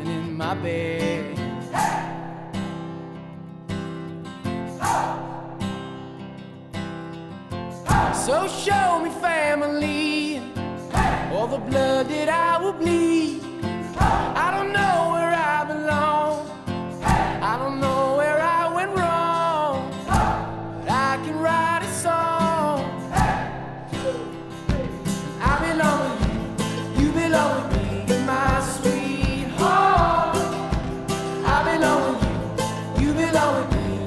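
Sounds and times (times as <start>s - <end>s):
song with singing guitar and beat: 0.0s - 34.0s.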